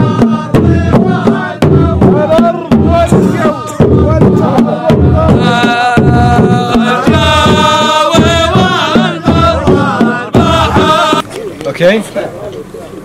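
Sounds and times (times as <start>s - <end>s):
person singing a folk melody: 0.0s - 11.4s
drum beats: 0.0s - 12.0s.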